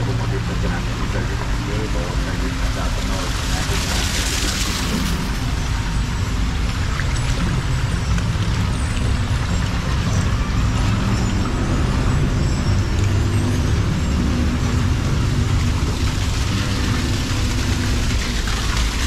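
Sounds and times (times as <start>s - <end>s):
boat motor humming: 0.0s - 19.0s
water rushing and splashing: 0.0s - 19.0s.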